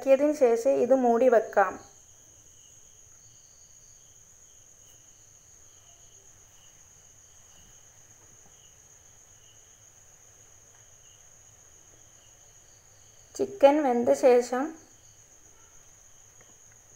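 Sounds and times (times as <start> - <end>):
crickets trilling: 0.0 - 16.9
soft pulsing cricket chirp: 0.0 - 16.9.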